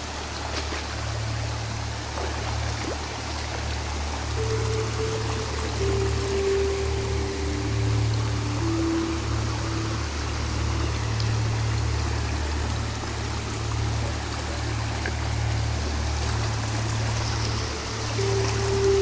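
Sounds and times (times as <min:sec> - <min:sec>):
river water rushing: 0:00.0 - 0:19.0
water trickling: 0:00.0 - 0:19.0.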